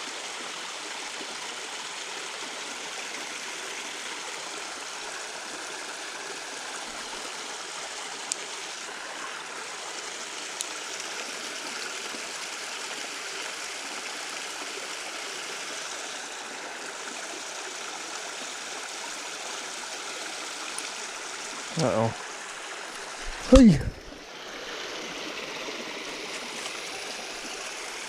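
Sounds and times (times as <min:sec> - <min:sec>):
creek water running: 0:00.0 - 0:28.0.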